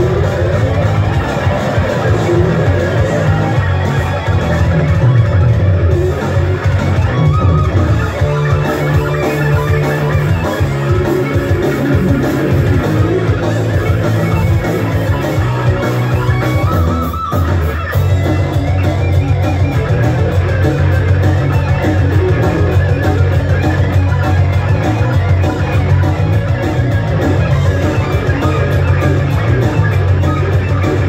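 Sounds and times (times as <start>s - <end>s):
electric guitar: 0.0s - 31.0s
heavy metal band playing live: 0.0s - 31.0s.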